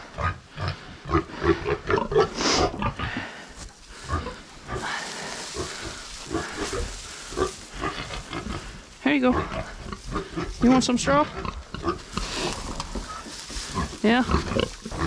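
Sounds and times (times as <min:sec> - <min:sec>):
pigs grunting: 0:00.0 - 0:15.0
dry straw rustling: 0:01.0 - 0:15.0.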